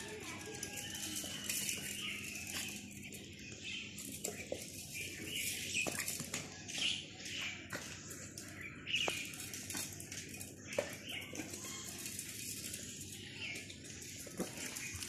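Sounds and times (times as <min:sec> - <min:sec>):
bills clicking on metal bowls: 0:00.0 - 0:15.0
ducks rustling through feed: 0:00.0 - 0:15.0.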